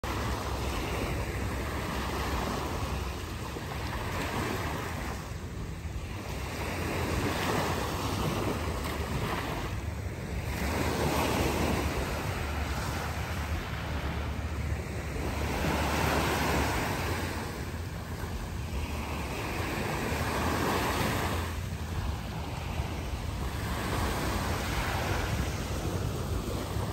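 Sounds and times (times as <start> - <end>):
waves lapping on a beach: 0.0 - 26.9
wind rumbling on microphone: 0.0 - 26.9.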